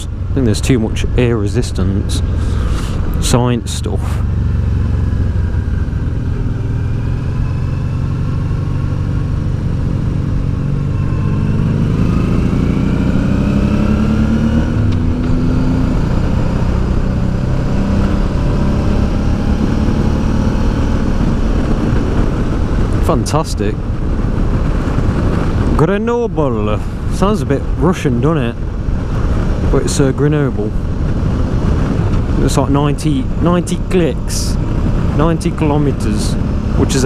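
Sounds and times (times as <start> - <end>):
motorcycle engine accelerating: 0.0 - 37.0
wind rushing over microphone: 0.0 - 37.0.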